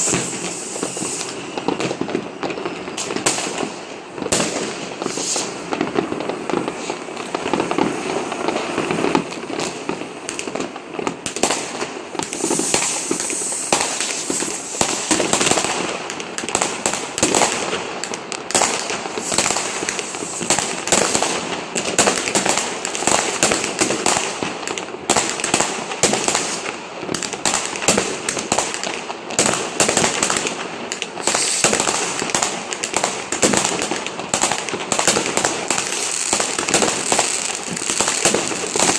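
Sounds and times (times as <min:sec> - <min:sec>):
fireworks and firecrackers banging: 0:00.0 - 0:38.9.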